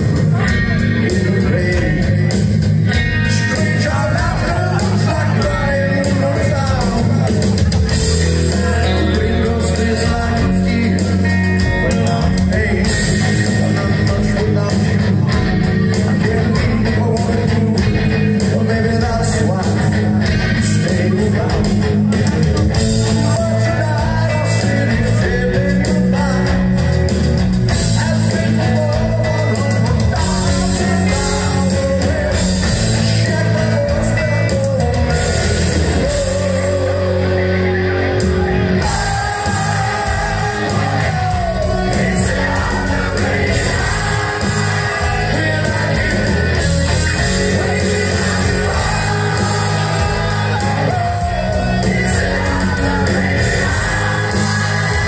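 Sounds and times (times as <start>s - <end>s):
bass guitar: 0.0s - 55.0s
drums: 0.0s - 55.0s
electric guitars: 0.0s - 55.0s
man singing: 0.0s - 55.0s.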